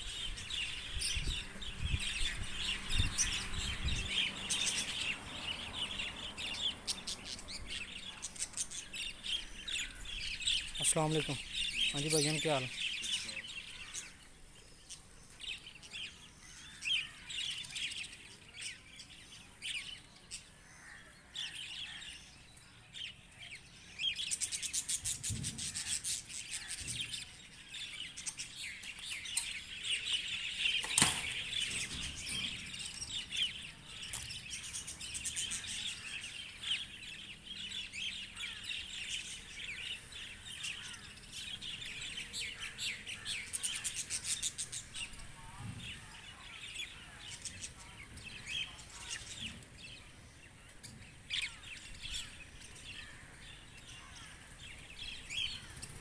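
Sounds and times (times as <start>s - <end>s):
budgerigars chirping: 0.0s - 14.2s, 24.0s - 56.0s.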